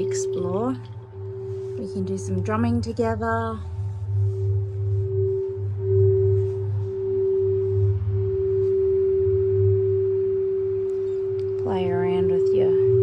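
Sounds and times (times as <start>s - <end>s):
low pulsing hum: 0.0s - 13.0s
singing bowl tone: 0.0s - 13.0s.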